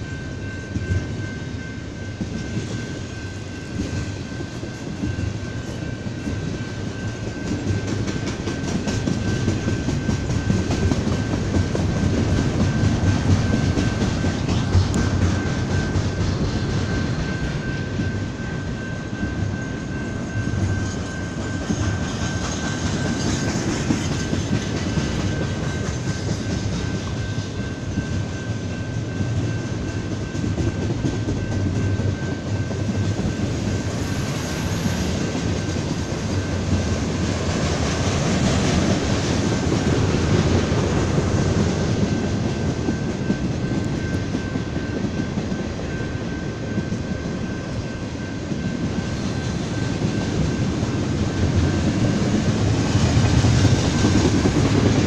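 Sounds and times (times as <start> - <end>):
freight train rumbling over rails: 0.0 - 55.0.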